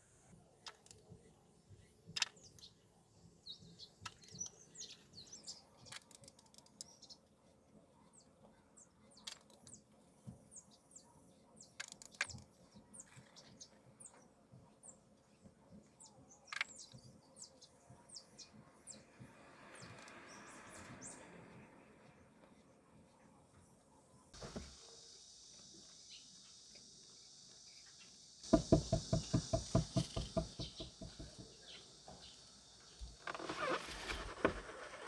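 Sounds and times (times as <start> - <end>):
small birds chirping: 0.6 - 34.5.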